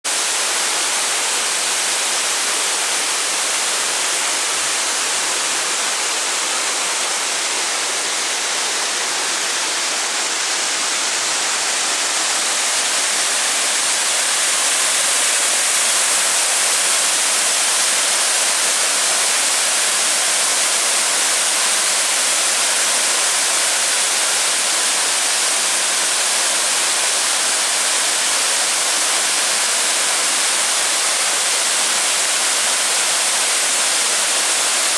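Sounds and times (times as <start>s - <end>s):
stream and waterfall rushing: 0.1s - 34.9s.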